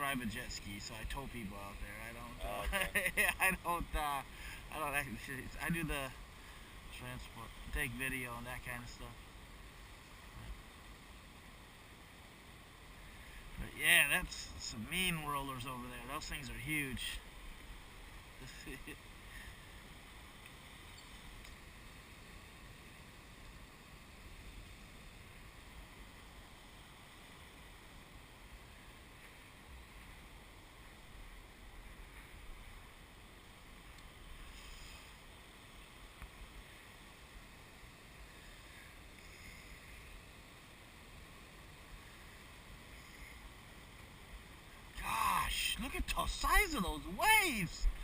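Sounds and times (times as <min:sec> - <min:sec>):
distant ocean waves breaking: 0:00.0 - 0:48.0.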